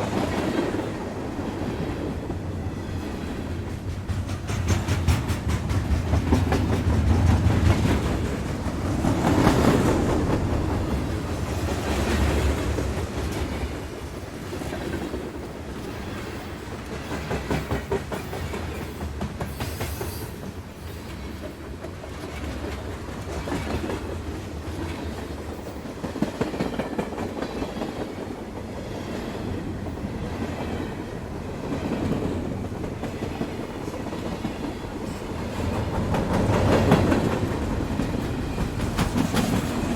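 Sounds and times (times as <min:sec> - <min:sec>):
train rumble: 0:00.0 - 0:39.9
train wheels clattering over rail joints: 0:03.4 - 0:29.3, 0:31.6 - 0:39.9.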